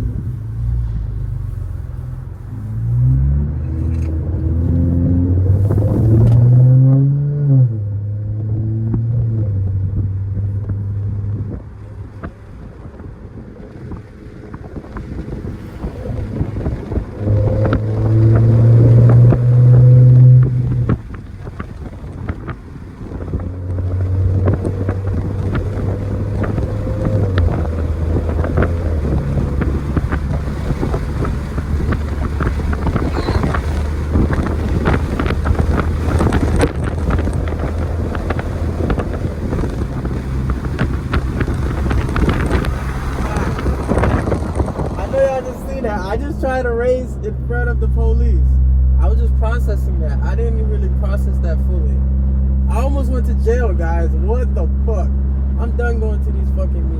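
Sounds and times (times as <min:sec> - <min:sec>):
wind buffeting microphone: 0:00.0 - 0:54.1
car engine accelerating: 0:00.0 - 0:56.9.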